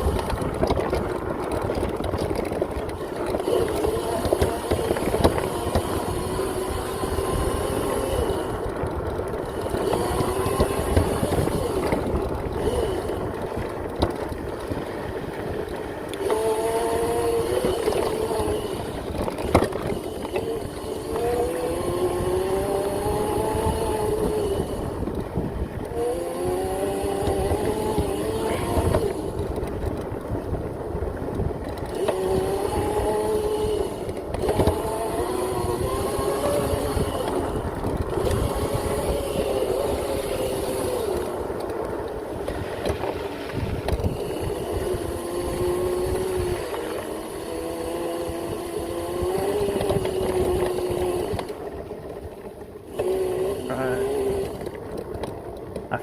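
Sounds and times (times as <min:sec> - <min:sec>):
electric motor whining: 0:00.0 - 0:56.0
rough riding rumble: 0:00.0 - 0:56.0.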